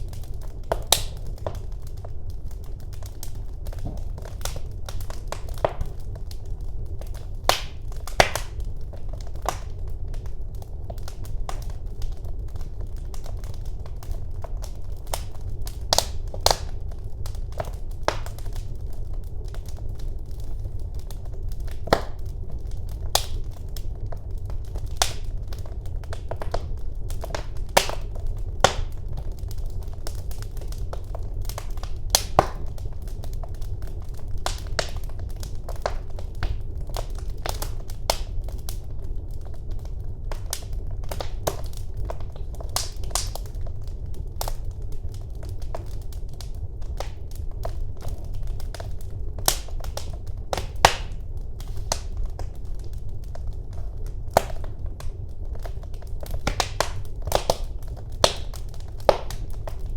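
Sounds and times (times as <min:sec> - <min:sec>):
fire crackling: 0:00.0 - 0:59.9
low rumble of fire: 0:00.0 - 0:59.9
sharp pops of fire: 0:00.0 - 0:59.9.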